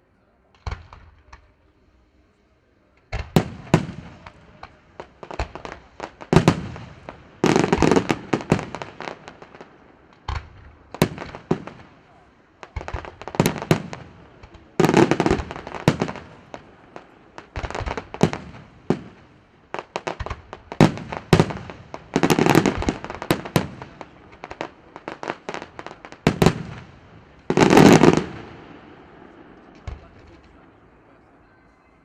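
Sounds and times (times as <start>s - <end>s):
crackling fireworks volleys: 0.0s - 31.7s
fireworks bangs: 0.5s - 1.7s, 3.0s - 31.4s.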